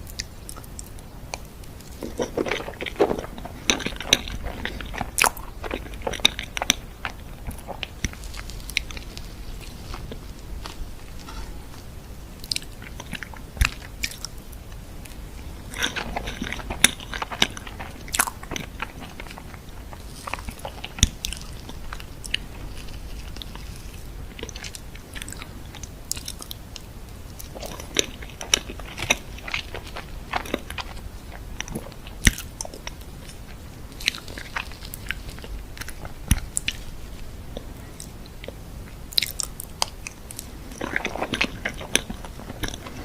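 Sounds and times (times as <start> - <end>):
food crunching: 0.0 - 43.0
person chewing food: 0.0 - 43.0.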